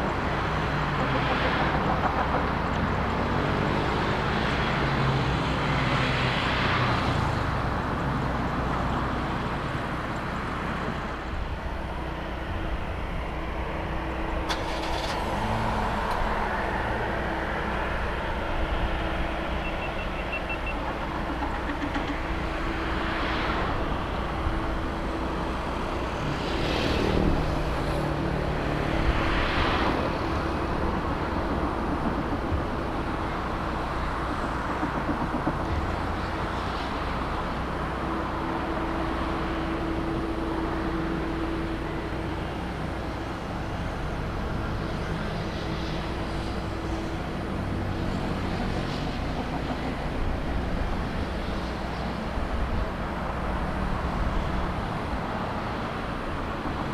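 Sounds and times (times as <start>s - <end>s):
road traffic rumble: 0.0s - 56.9s
vehicles passing by: 0.0s - 56.9s.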